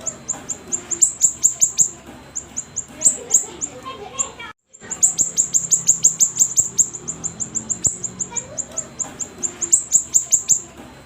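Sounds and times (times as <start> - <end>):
songbird chirping: 0.0 - 10.8.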